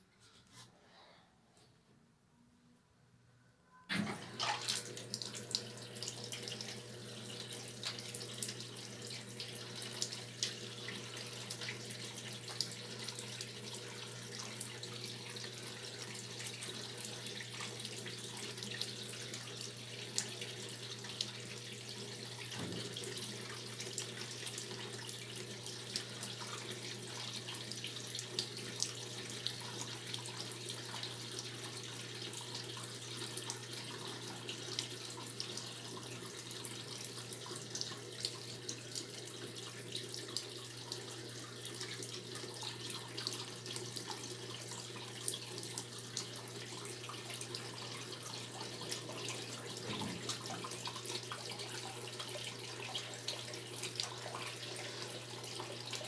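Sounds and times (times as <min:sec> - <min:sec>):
washing machine hum: 0:03.9 - 0:56.0
water pouring into washing machine: 0:03.9 - 0:56.0.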